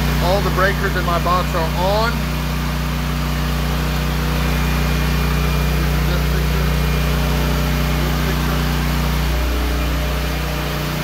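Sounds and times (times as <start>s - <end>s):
portable generator running: 0.0s - 11.0s.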